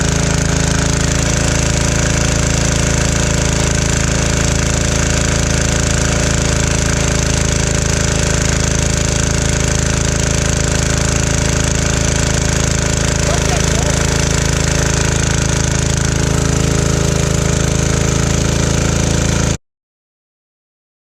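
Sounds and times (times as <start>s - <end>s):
diesel generator engine running: 0.0s - 19.6s.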